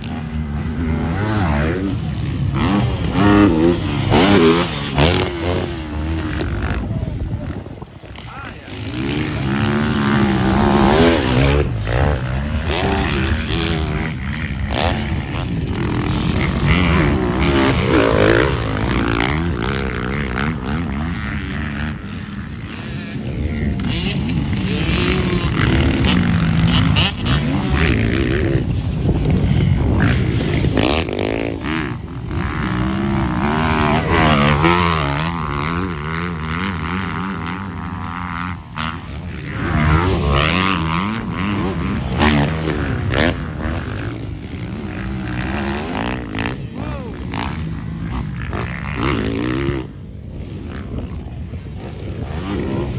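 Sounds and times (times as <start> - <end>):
dirt bike engines revving: 0.0 - 52.9.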